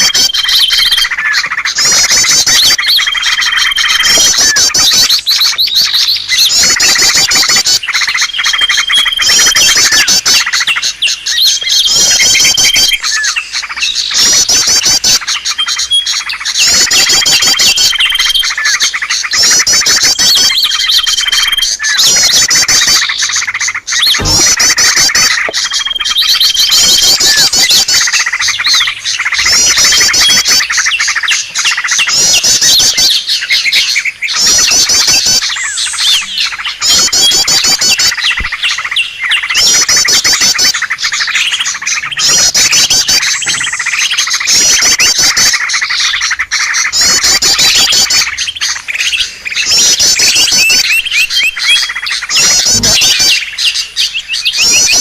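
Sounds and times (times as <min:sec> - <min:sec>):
many small birds chirping: 0:00.0 - 0:55.0.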